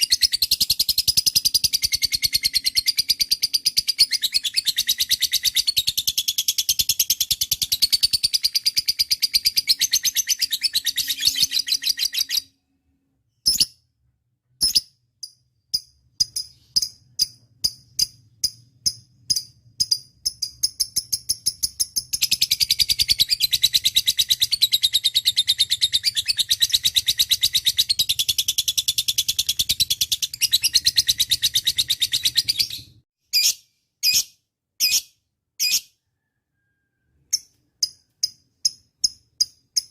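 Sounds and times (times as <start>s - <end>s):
bird chirps: 0.0s - 39.9s.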